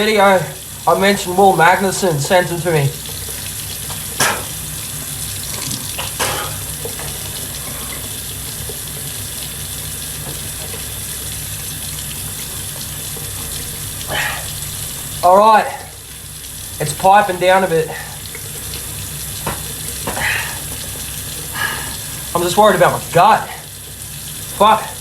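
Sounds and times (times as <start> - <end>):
water running from a tap: 0.0 - 25.0.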